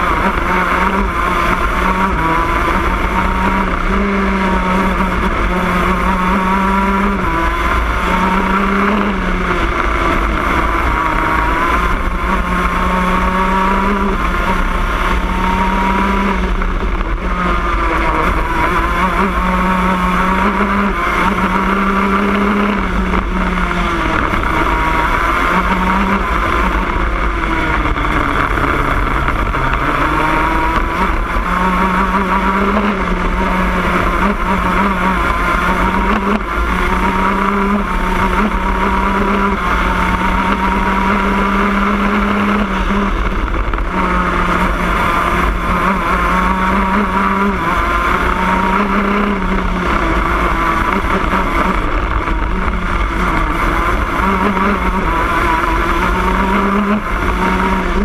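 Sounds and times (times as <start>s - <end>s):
kart racing engine revving: 0.0s - 58.0s.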